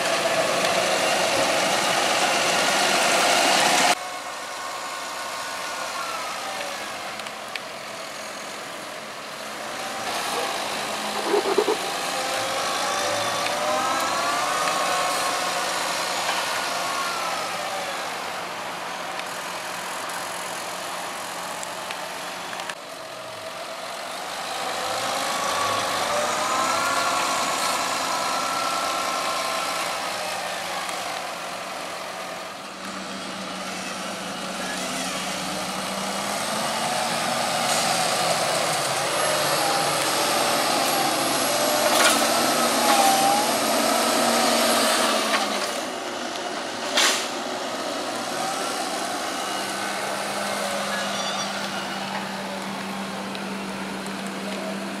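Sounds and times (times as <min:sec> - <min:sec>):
tractor engines working: 0:00.0 - 0:55.0.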